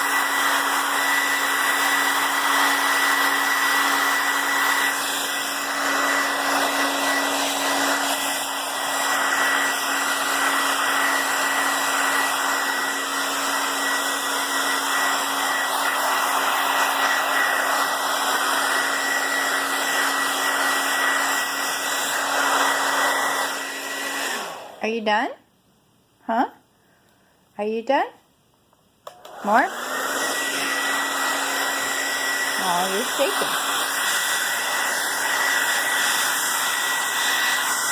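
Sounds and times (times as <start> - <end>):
blow dryer running: 0.0 - 25.0, 29.1 - 37.9.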